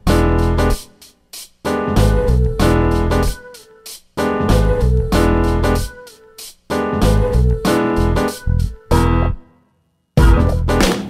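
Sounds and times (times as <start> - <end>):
keyboard chords: 0.0 - 11.0.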